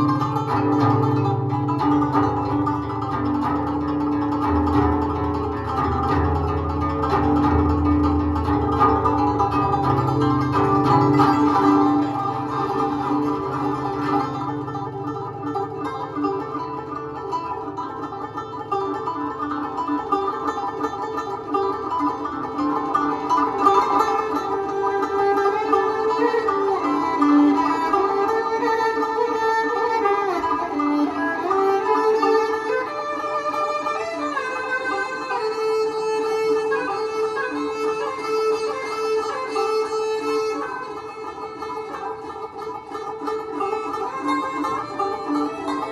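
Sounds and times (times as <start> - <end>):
plucked guzheng: 0.0 - 45.9.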